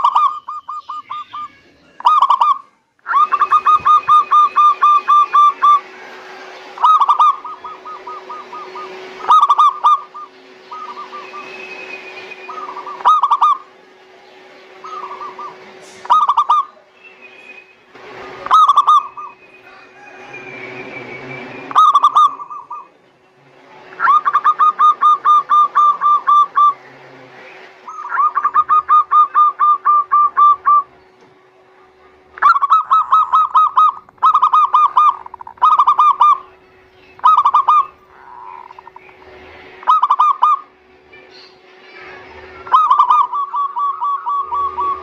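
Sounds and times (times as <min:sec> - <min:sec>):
doves cooing: 0:00.0 - 0:23.1, 0:23.8 - 0:40.8, 0:41.6 - 0:45.0
faint steady hum: 0:00.0 - 0:45.0.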